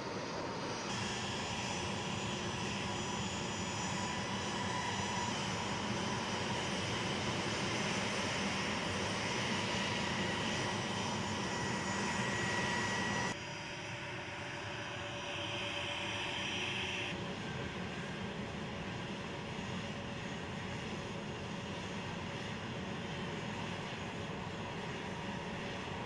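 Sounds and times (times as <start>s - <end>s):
jet engines whining: 0.0s - 26.0s.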